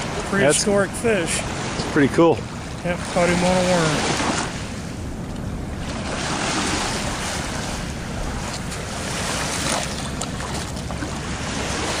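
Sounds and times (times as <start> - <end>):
small waves lapping: 0.0 - 12.0
wind on microphone: 1.4 - 12.0.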